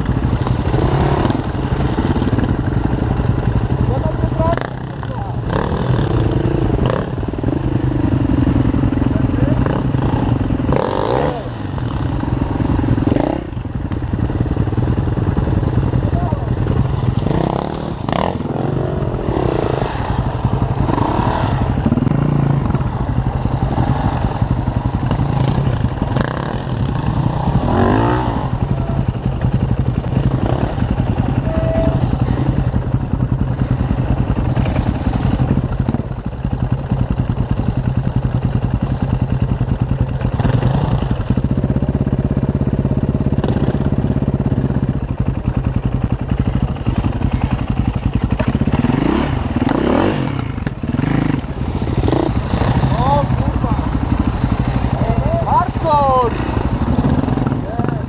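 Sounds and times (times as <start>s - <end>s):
dirt bike engine revving: 0.0s - 37.8s, 38.4s - 58.0s.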